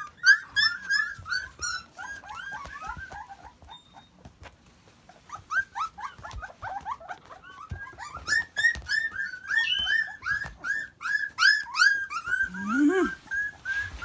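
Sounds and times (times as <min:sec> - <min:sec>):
puppies whimpering and squealing: 0:00.0 - 0:14.0.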